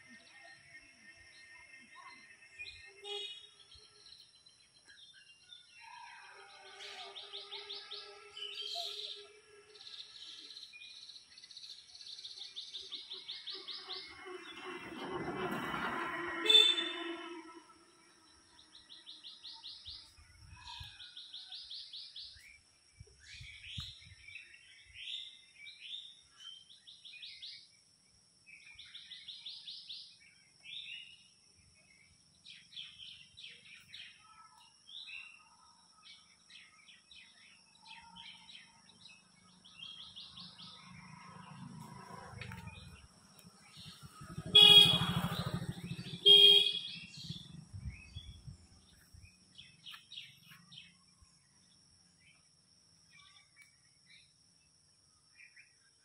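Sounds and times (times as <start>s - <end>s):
songbirds chirping and singing: 0.0s - 15.1s, 16.4s - 56.0s.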